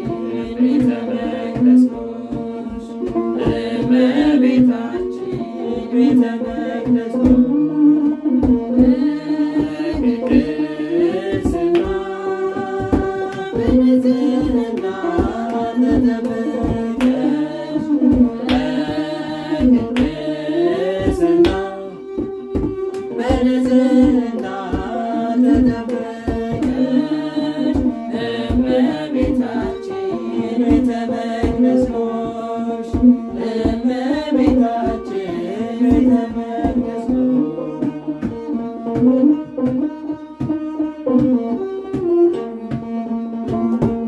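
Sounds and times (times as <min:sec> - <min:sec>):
hand drums beating: 0:00.0 - 0:44.0.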